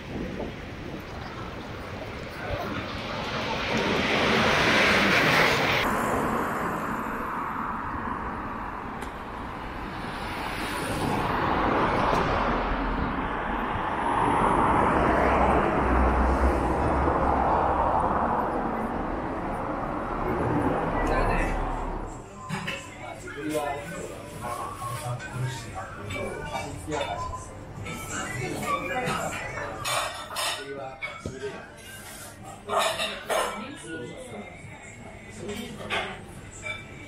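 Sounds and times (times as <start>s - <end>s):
cars passing: 0.0s - 30.5s
low traffic rumble: 0.0s - 37.0s.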